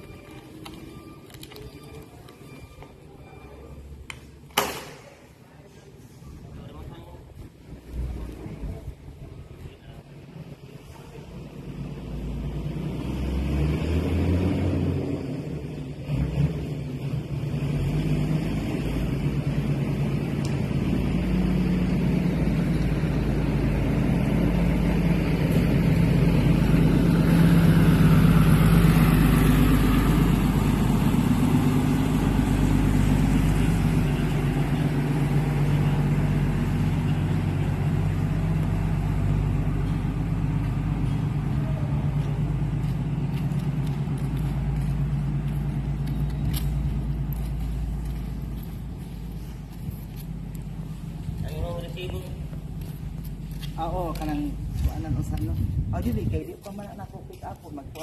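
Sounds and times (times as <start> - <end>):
truck engine running: 7.2 - 56.9.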